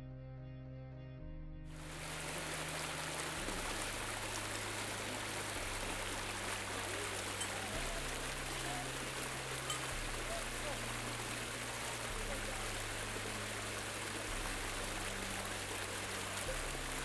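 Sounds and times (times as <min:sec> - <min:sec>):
low sustained bass notes: 0:00.0 - 0:17.0.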